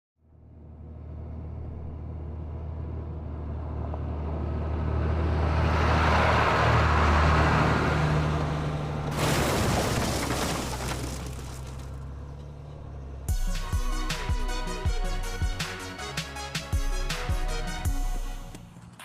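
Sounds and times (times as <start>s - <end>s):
heavy vehicle engine drone: 0.2s - 9.8s, 10.7s - 19.0s
road noise: 0.2s - 19.0s.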